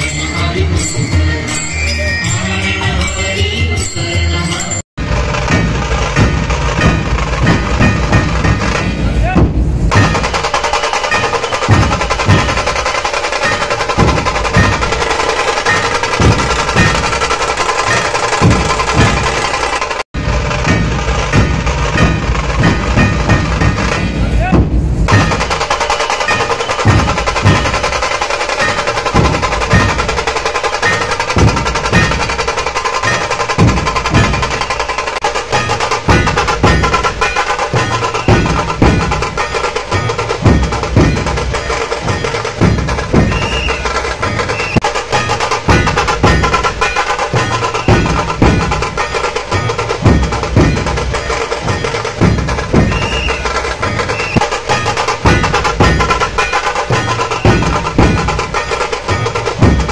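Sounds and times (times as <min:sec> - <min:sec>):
deep drum strokes: 0:05.0 - 0:59.9
rapid drum rattle: 0:05.0 - 0:59.9.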